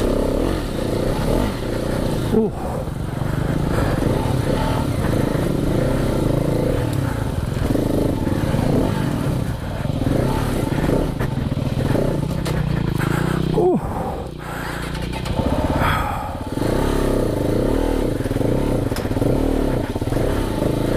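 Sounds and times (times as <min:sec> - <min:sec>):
bike rattling over rough ground: 0:00.0 - 0:20.9
motorcycle engine revving: 0:00.0 - 0:20.9.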